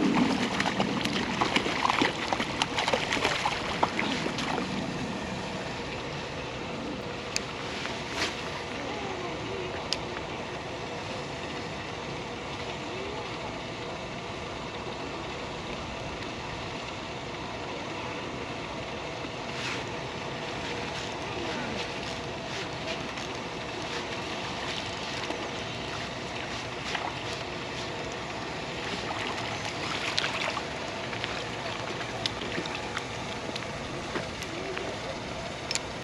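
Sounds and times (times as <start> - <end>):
water noise: 0.0 - 18.5, 19.1 - 36.0
wind: 0.0 - 36.0.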